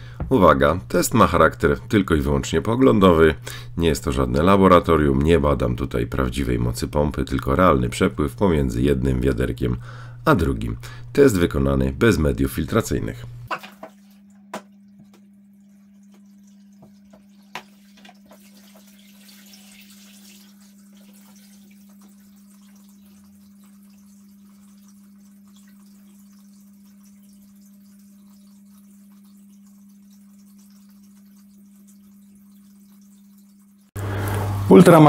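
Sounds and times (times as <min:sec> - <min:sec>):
filter pump hum: 0:00.0 - 0:35.0.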